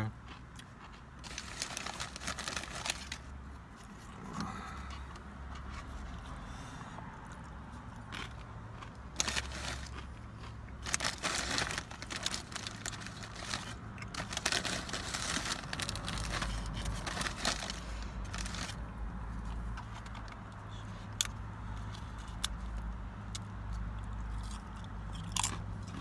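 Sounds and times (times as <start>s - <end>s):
crunching tortilla chips: 0.2s - 3.4s, 7.2s - 26.0s.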